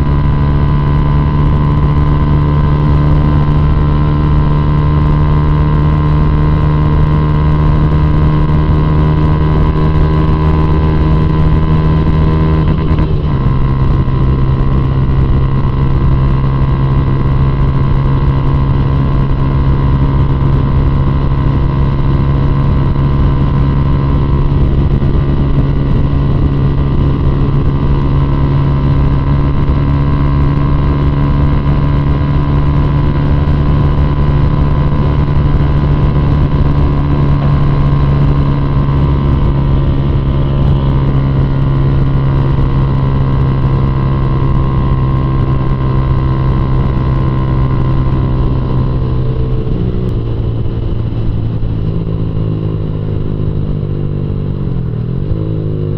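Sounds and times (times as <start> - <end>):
motorcycle engine rumble: 0.0 - 55.9.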